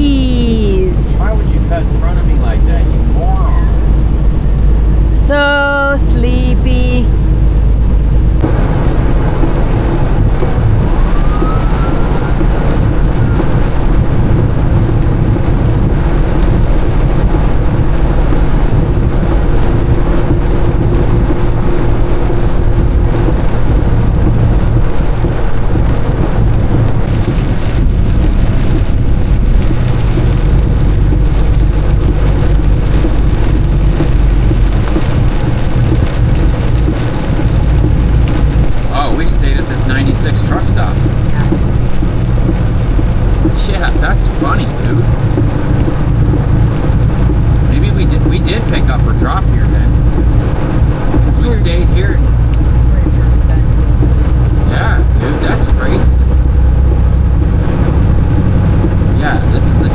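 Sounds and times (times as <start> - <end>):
rain and spray hissing: 0.0 - 59.9
truck engine and tyres droning: 0.0 - 59.9.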